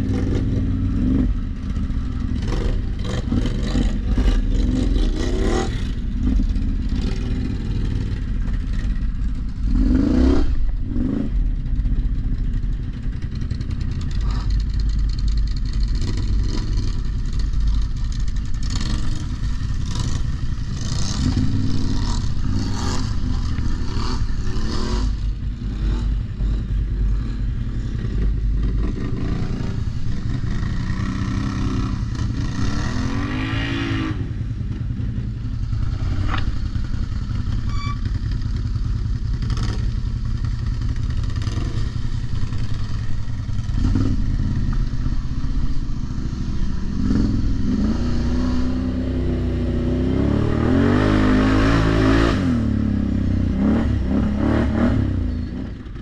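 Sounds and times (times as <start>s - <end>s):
atv engines revving: 0.0s - 56.0s.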